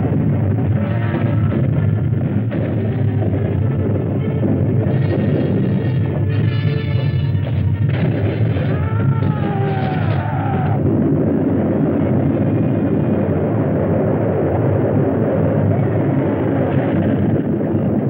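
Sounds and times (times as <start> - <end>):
eruption low roar: 0.0 - 18.0.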